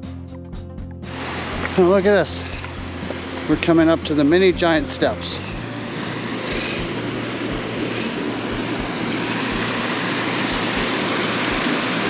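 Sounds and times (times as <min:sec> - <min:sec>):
creek water rushing over rocks: 0:01.1 - 0:12.0.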